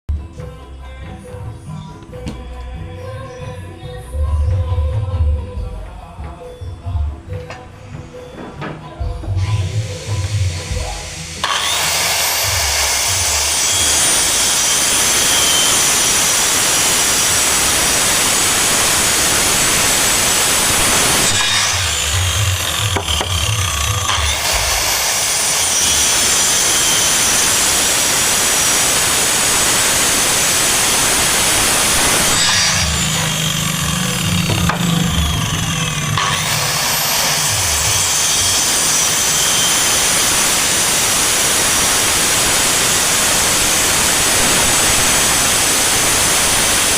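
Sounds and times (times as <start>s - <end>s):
power saw cutting wood: 8.2s - 46.9s.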